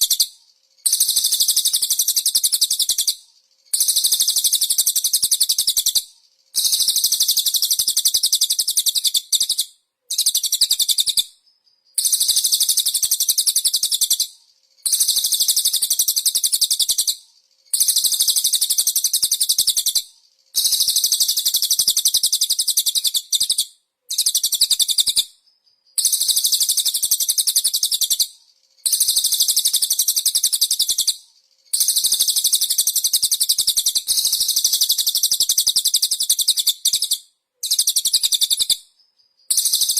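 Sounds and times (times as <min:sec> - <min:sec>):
songbird chattering song: 0:00.0 - 0:39.9.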